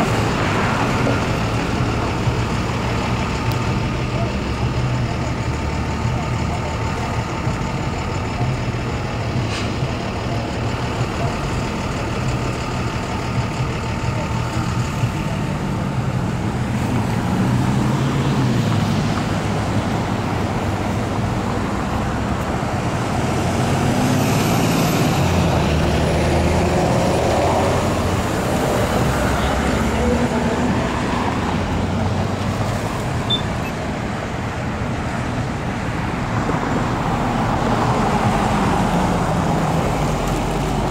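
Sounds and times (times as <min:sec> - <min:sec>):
car and truck engines passing: 0:00.0 - 0:40.9.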